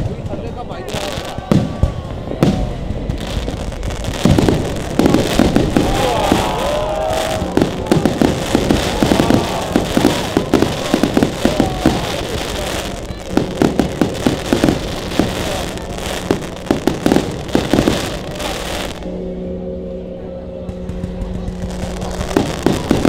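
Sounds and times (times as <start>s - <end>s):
fireworks crackling and banging: 0.0s - 19.2s, 20.6s - 23.0s.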